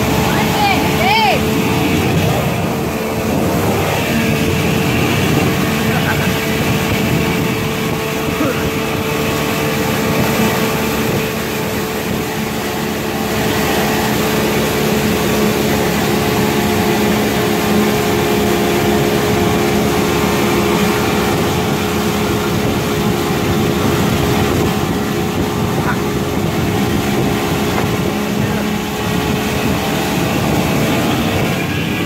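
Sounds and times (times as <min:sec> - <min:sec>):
churning wake water: 0:00.0 - 0:32.0
outboard motor droning: 0:00.0 - 0:32.0
wind rushing: 0:00.0 - 0:32.0.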